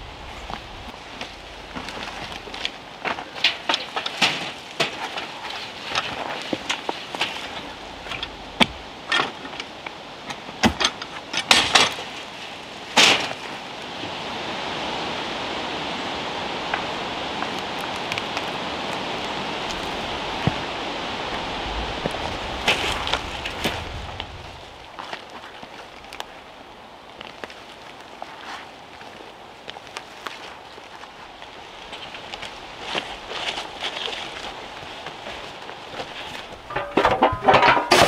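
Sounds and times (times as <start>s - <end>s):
leaves rustling with snaps: 0.0s - 38.0s.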